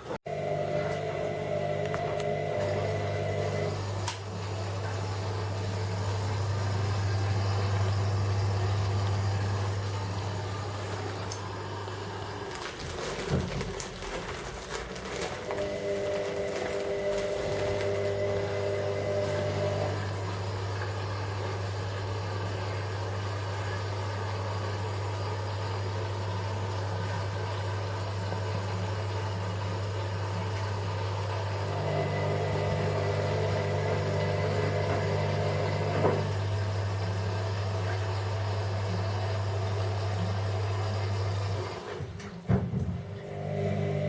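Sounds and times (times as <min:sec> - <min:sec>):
washing machine hum: 0:00.0 - 0:44.0.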